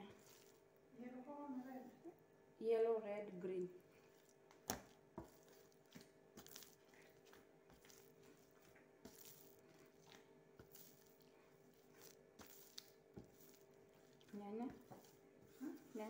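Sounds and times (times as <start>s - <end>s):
dough being kneaded by hand: 0.0s - 2.4s, 3.7s - 16.0s
faint steady hum: 0.0s - 16.0s.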